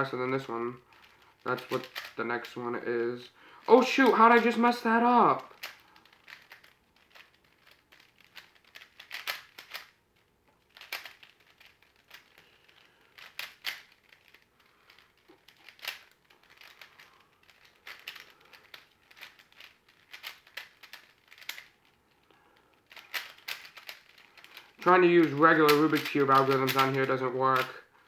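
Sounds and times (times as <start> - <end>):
puzzle cube plastic clicks: 0.0 - 27.9.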